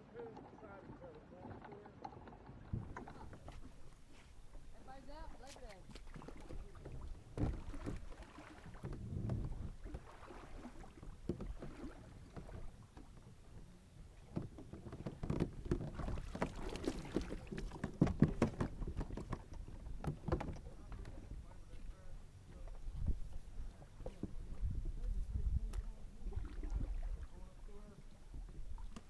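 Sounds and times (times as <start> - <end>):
water slapping kayak hull: 0.0 - 29.0.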